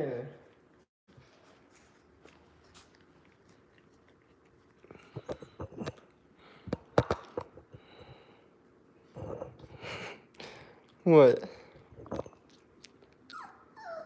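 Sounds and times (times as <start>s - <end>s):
puppy sniffing and snuffling: 0.5s - 14.0s.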